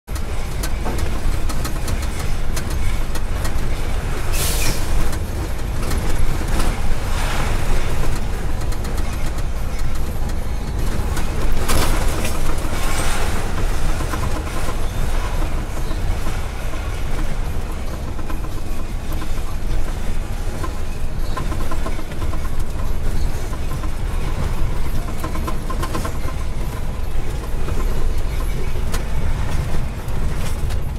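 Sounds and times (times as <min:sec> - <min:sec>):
tyres rumbling over cobblestones: 0:00.1 - 0:30.9.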